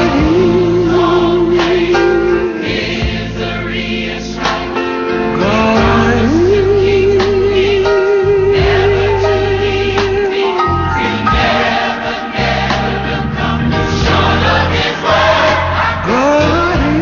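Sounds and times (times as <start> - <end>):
choir singing gospel: 0.0 - 17.0
steady bass: 0.0 - 17.0.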